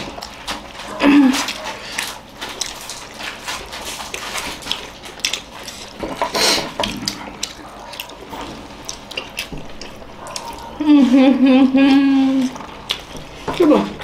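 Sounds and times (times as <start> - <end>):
wet chewing and mouth sounds: 0.0 - 14.0.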